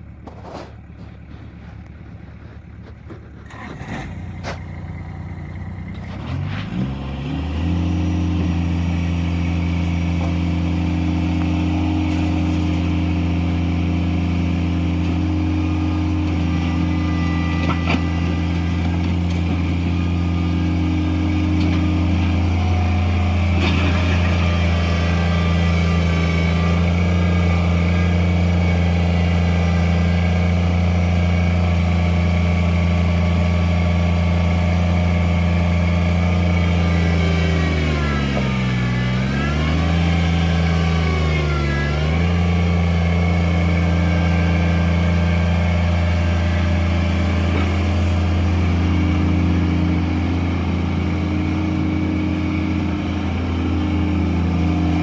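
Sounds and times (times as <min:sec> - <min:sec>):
diesel engine starting and running: 0:00.0 - 0:55.0.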